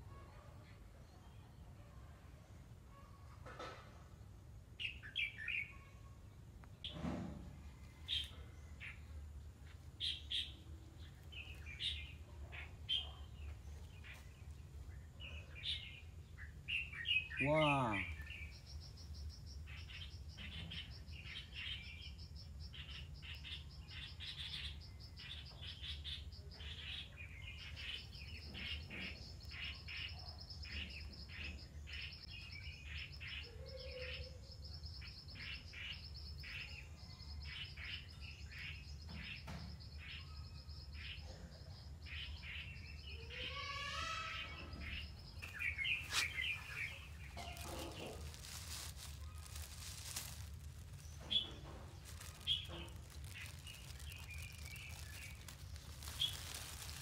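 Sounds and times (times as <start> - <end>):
small birds chirping: 9.9 - 57.0.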